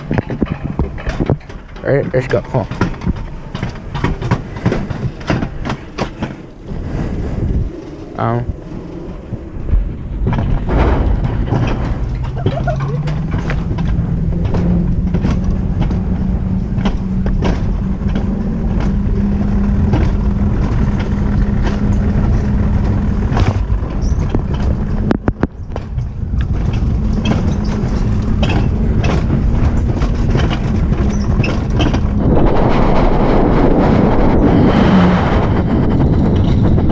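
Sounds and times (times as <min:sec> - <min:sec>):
vehicle rumble and hum: 0:00.0 - 0:36.9.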